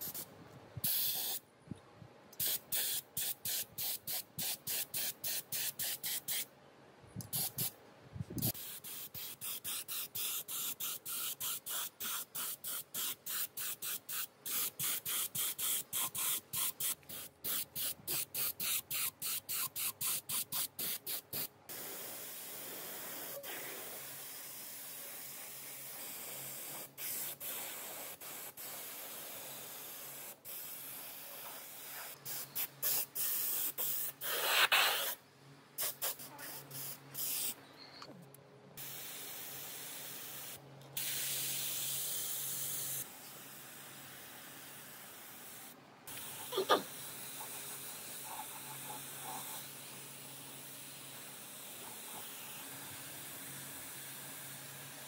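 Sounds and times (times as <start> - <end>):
pressurised spray hissing: 0.0 - 1.4, 2.4 - 6.5, 8.4 - 35.2, 35.8 - 37.6, 38.8 - 55.0.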